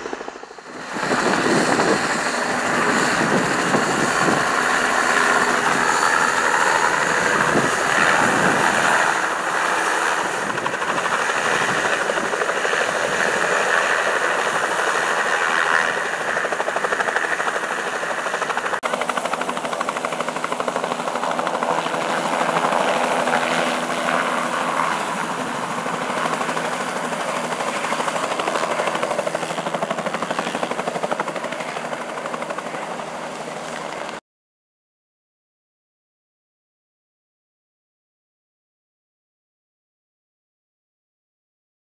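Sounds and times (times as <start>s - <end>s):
helicopter turbine and rotors: 0.0s - 34.2s.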